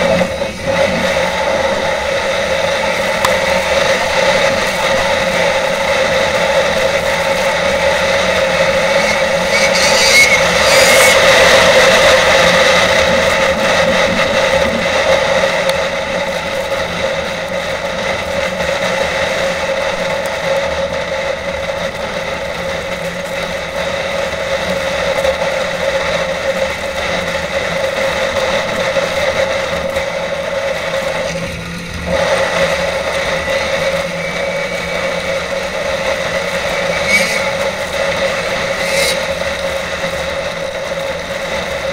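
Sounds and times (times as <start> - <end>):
snowmobile engine running: 0.0 - 41.9.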